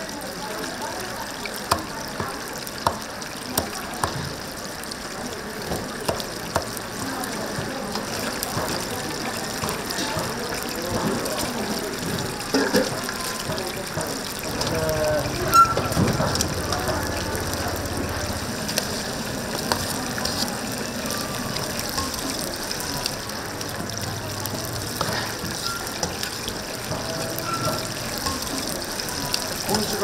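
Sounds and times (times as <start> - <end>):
chicken sizzling in hot oil: 0.0 - 30.0.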